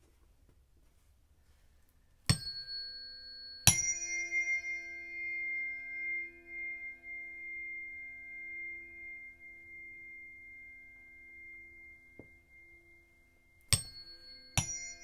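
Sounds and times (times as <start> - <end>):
pure tones ringing: 2.3 - 15.0
tuning forks struck: 2.3 - 15.0.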